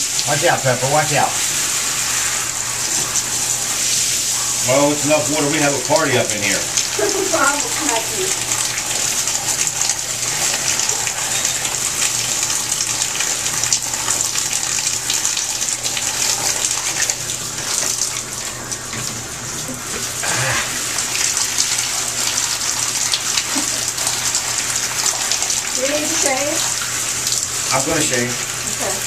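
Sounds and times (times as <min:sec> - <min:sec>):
shower water spraying: 0:00.0 - 0:29.0.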